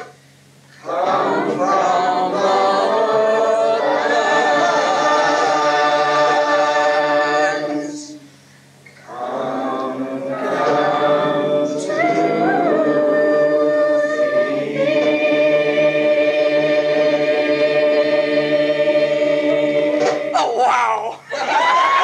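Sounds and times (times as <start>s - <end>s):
choir singing a cappella: 0.8s - 8.3s, 9.0s - 20.7s.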